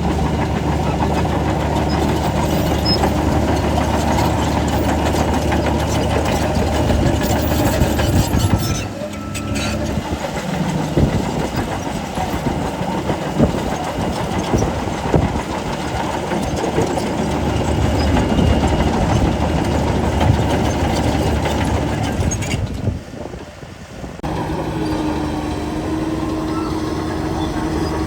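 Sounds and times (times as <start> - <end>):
metallic clanks from tracks: 0.0 - 22.9
bulldozer diesel engine under load: 0.0 - 28.0.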